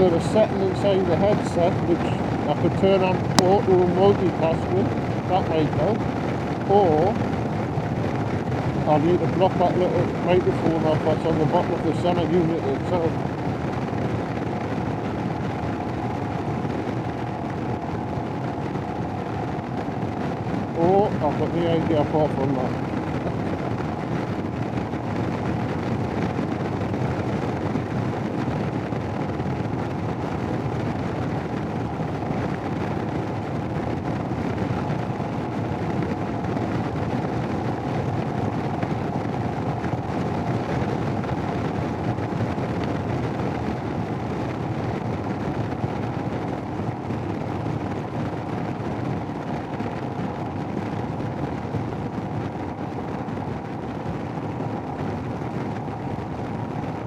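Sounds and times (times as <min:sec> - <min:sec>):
motorcycle engine: 0:00.0 - 0:49.2
road noise: 0:00.0 - 0:57.0
wind rushing on microphone: 0:00.0 - 0:57.0.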